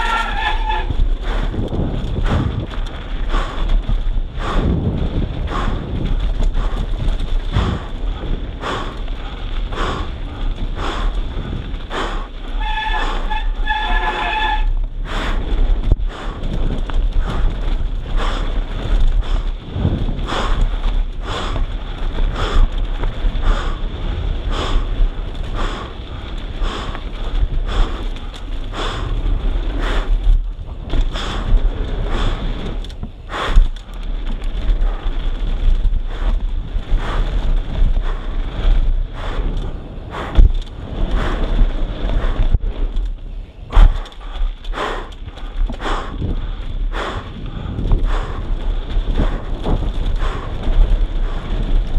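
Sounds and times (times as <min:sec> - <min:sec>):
bike rattling and knocking: 0:00.0 - 0:51.9
wind buffeting microphone: 0:00.0 - 0:51.9.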